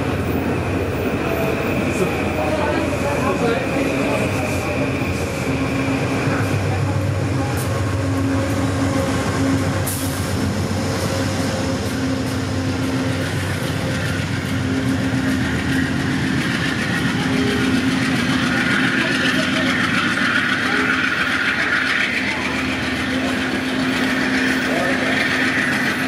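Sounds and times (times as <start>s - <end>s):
diesel locomotive engine running: 0.0s - 26.0s
passenger coaches rolling past: 0.0s - 26.0s.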